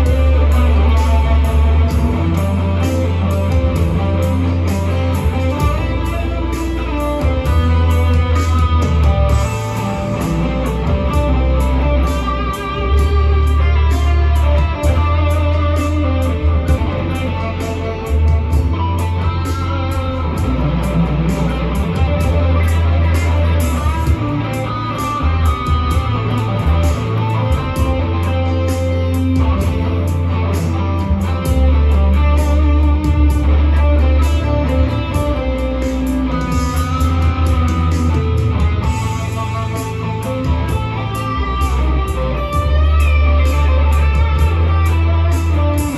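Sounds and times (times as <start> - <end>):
deep sustained bass line: 0.0 - 45.9
electric guitar melodic lines: 0.0 - 45.9.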